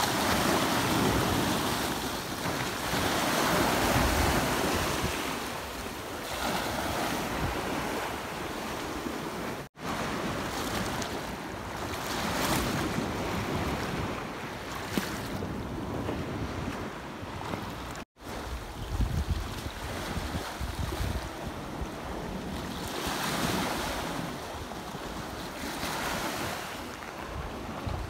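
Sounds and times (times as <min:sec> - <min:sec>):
sea waves washing over rocks: 0:00.0 - 0:28.0
wind buffeting microphone: 0:00.0 - 0:28.0.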